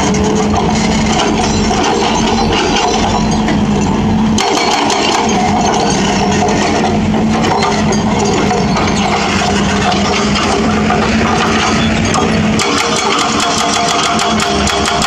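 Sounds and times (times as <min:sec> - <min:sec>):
diesel engine running: 0:00.0 - 0:15.0
hydraulic breaker hammering concrete: 0:00.0 - 0:15.0.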